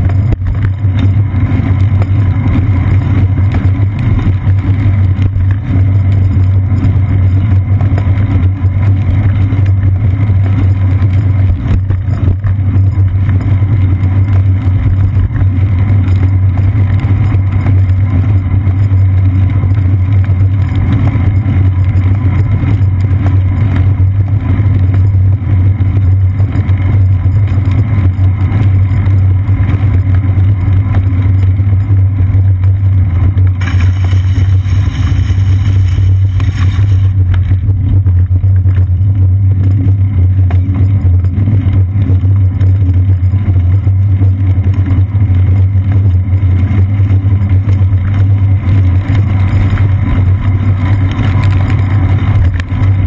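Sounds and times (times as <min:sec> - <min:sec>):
low rumble of road vibration: 0:00.0 - 0:53.0
wind: 0:00.0 - 0:53.0.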